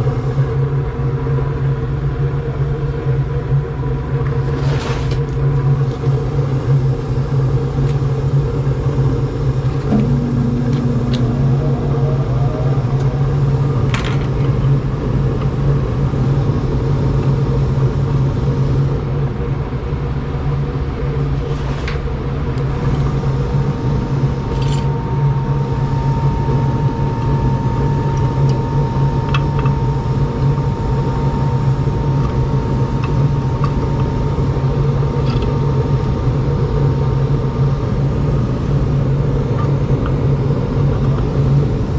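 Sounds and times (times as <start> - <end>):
gas furnace humming: 0.0 - 41.9.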